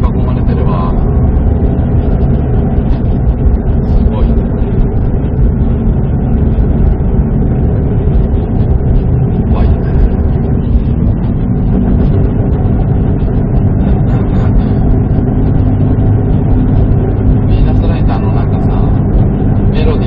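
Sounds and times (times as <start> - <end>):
gear change: 0.0 - 20.0
tyre and road noise: 0.0 - 20.0.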